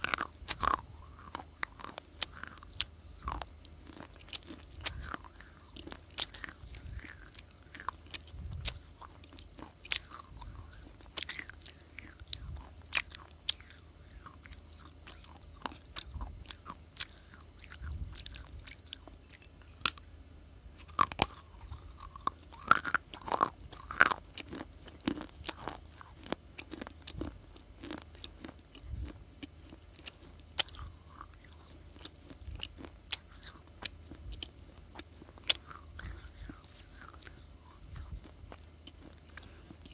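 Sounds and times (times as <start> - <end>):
crunching baked clay: 0.0 - 20.0, 20.8 - 39.9
faint steady hum: 0.0 - 39.9.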